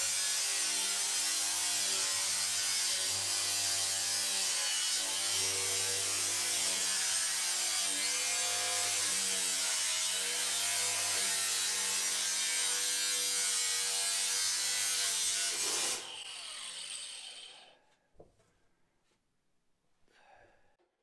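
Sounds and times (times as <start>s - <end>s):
angle grinder cutting steel: 0.0s - 17.8s.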